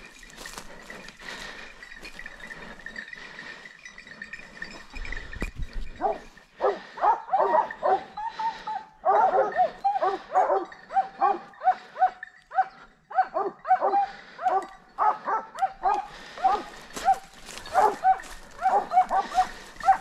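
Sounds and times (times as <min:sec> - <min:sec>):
hounds baying and yelping: 0:00.0 - 0:20.0.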